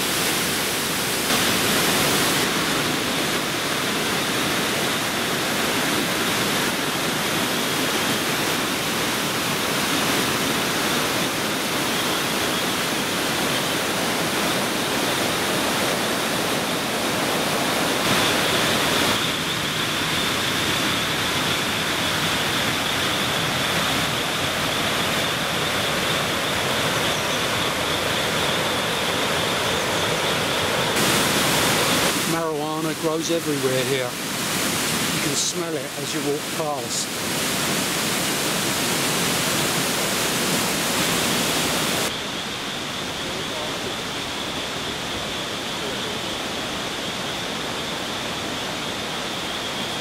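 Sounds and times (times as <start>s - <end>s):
stream rushing over boulders: 0.0s - 50.0s.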